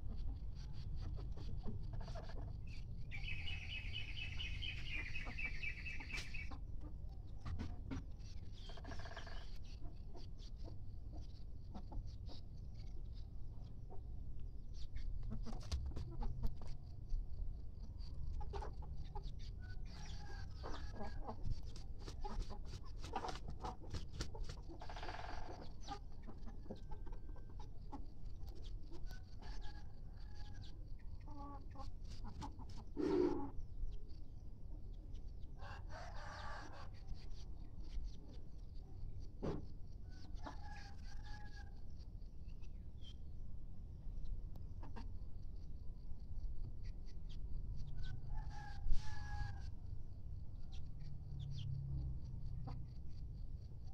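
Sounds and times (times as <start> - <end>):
chickens clucking: 0.0 - 43.2, 44.2 - 45.8, 52.4 - 53.9.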